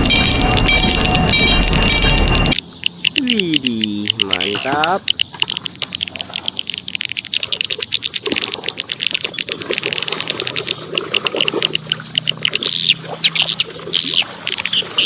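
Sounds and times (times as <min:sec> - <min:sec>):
scrubbing and splashing water: 0:02.6 - 0:15.0.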